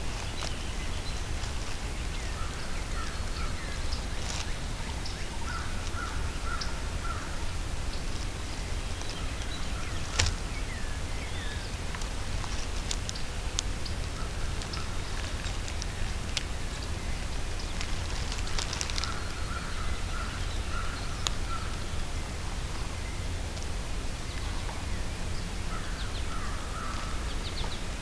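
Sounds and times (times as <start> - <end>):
birds chirping: 0.0 - 28.0
low steady rumble: 0.0 - 28.0.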